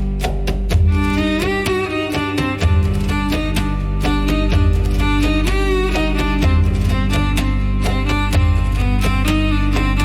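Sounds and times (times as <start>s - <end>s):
bowed string melody: 0.0s - 10.0s
plucked string notes: 0.0s - 10.0s.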